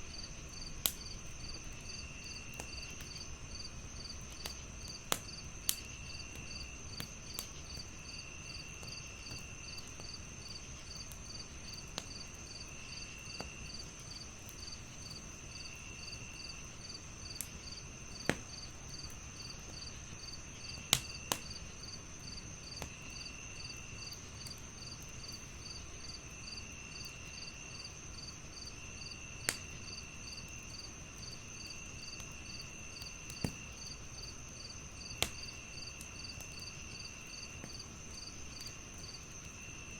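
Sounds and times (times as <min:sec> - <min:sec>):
crickets chirping: 0:00.0 - 0:39.9
wood fire crackling: 0:00.0 - 0:39.9.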